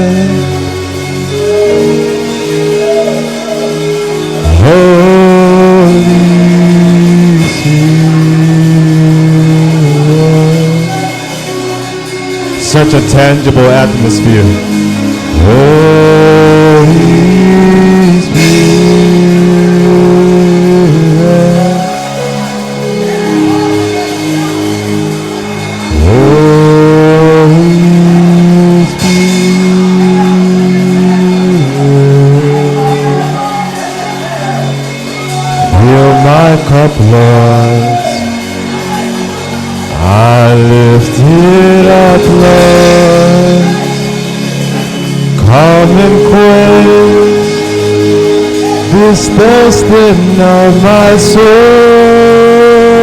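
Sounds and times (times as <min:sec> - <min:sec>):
worship music sustained notes: 0:00.0 - 0:53.0.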